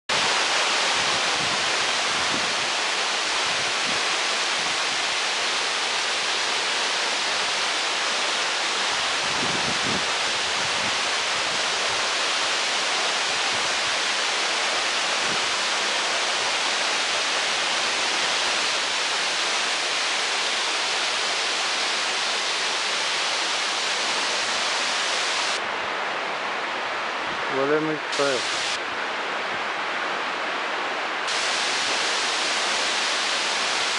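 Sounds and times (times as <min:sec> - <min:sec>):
waterfall rushing over rock: 0:00.1 - 0:33.9.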